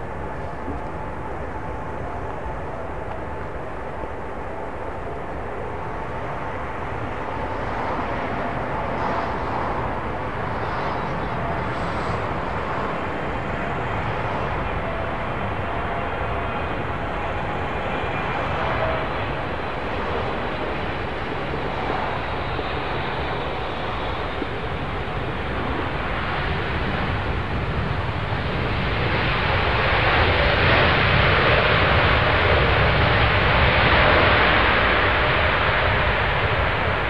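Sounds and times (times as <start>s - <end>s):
faint engine whine: 0.0s - 37.0s
jet airliner approaching: 0.0s - 37.0s.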